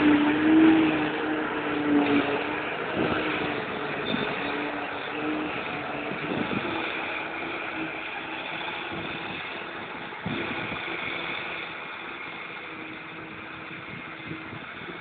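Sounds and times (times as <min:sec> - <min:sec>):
harvester engine and machinery drone: 0:00.0 - 0:15.0.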